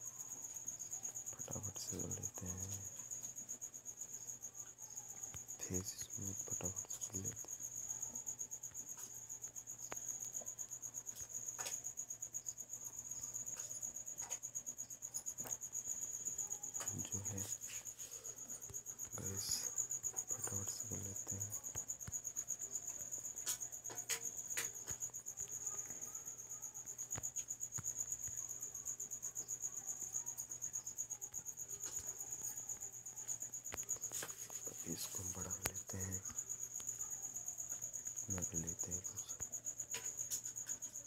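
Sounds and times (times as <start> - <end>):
cricket chirping: 0.0 - 41.0.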